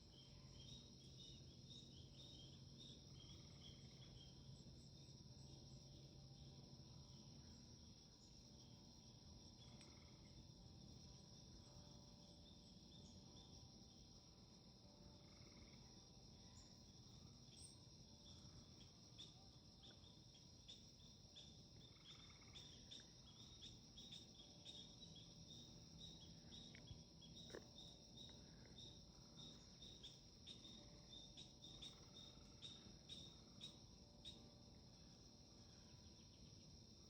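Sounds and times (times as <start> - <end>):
high-pitched insect drone: 0.0 - 37.0
insect chirps: 0.0 - 37.0.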